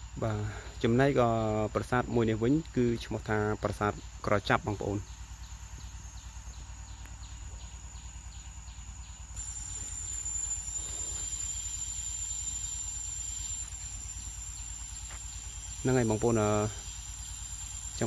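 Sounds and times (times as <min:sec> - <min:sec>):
forest insects chirping: 0:00.0 - 0:18.0
high steady buzz: 0:00.0 - 0:18.0.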